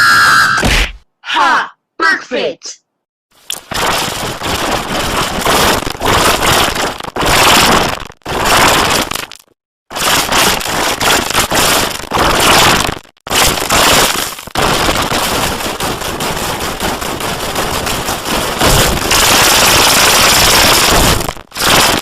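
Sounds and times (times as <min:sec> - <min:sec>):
distorted crackling noise: 0:03.4 - 0:22.0.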